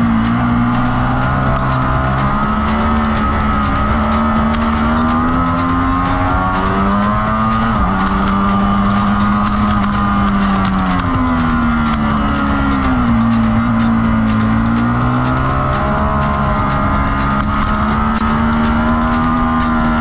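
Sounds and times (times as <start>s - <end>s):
motorcycle engine revving under load: 0.0s - 20.0s.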